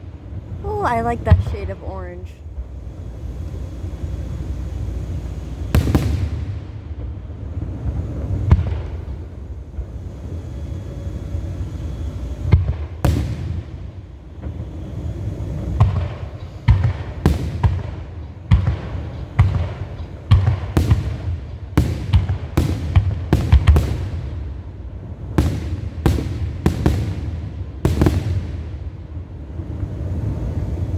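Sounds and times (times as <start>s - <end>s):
fireworks bangs: 0.0s - 30.9s.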